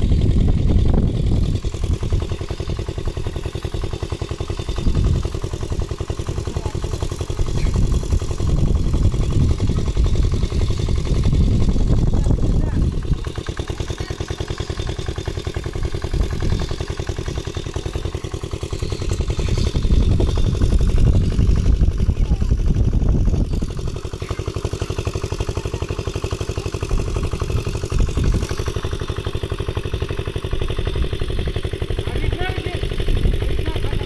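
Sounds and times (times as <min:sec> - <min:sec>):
small engine chugging: 0:00.0 - 0:34.0.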